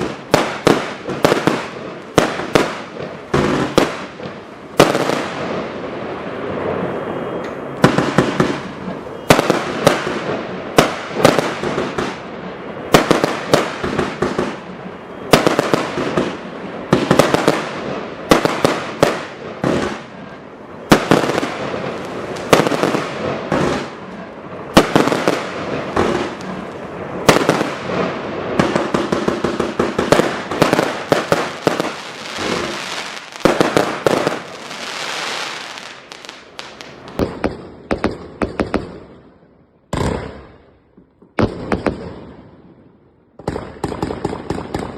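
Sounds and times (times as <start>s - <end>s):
firework cake firing: 0.0s - 39.0s
firework crackling: 0.0s - 39.1s
loud firework bangs: 0.0s - 39.3s, 39.9s - 42.5s.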